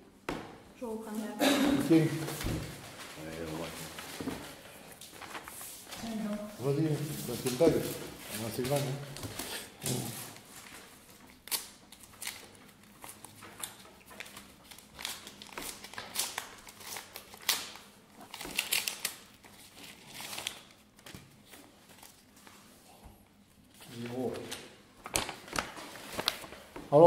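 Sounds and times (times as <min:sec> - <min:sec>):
paper rustling and crinkling: 0:01.9 - 0:22.8, 0:23.6 - 0:27.0.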